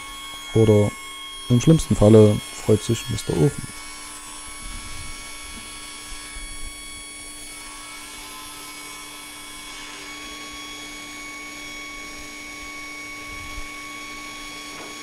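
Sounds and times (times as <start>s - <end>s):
saw cutting wooden board: 0.0s - 15.0s
woodworking saw humming: 0.0s - 15.0s.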